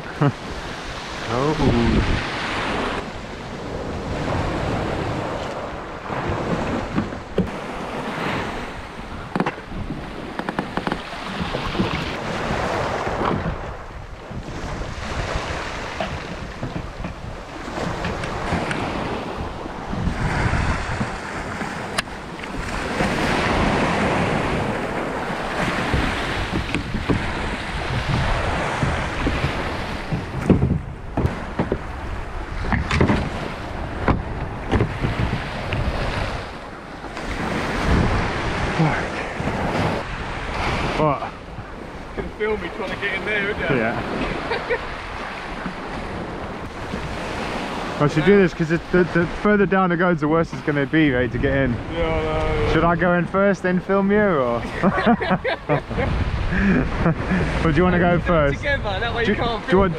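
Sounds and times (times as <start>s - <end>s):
waves washing onto shingle: 0.0s - 59.9s
wind buffeting microphone: 0.0s - 59.9s.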